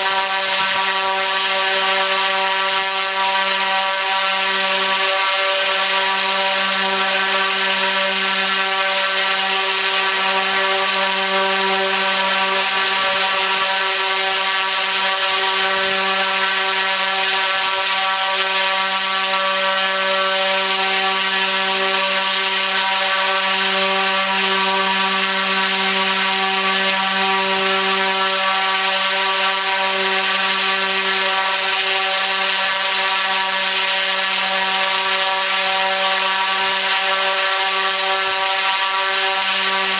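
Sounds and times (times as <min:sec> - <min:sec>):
propeller drone with motor hum: 0:00.0 - 0:39.9.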